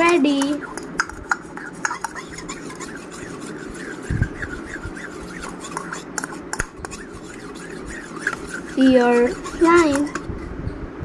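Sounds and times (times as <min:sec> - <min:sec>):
slime being handled and scraped: 0:00.0 - 0:10.3.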